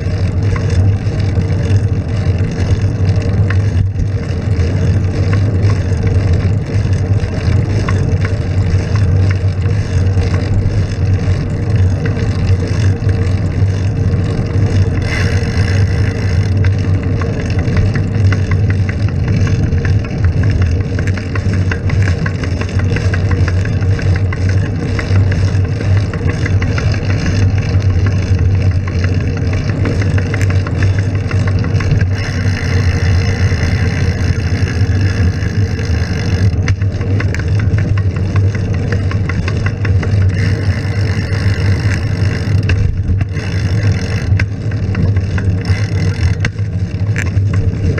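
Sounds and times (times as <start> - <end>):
car engines running: 0.0 - 47.9
traffic and road noise: 0.0 - 47.9.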